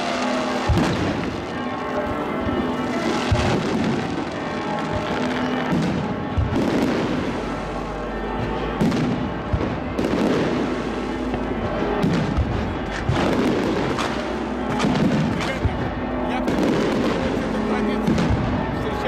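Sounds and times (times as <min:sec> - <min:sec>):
firework booms: 0:00.0 - 0:01.6, 0:02.4 - 0:07.4, 0:08.4 - 0:18.7
firework crackle: 0:00.0 - 0:19.0
music: 0:00.0 - 0:19.0.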